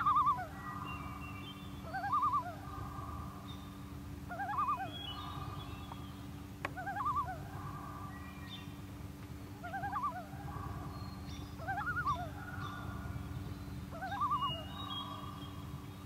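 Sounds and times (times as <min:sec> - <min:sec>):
loon calling: 0:00.0 - 0:08.8, 0:09.6 - 0:15.8
steady low hum: 0:00.0 - 0:16.0.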